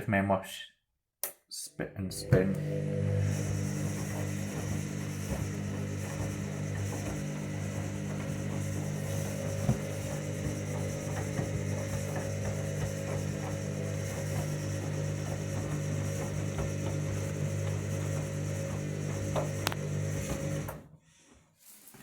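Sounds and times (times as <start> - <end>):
drain pump humming and rattling: 2.2 - 20.9.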